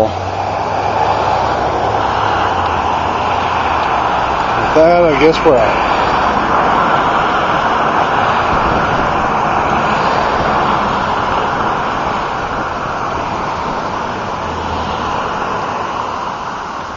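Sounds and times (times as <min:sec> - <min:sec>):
road traffic rushing: 0:00.0 - 0:16.9.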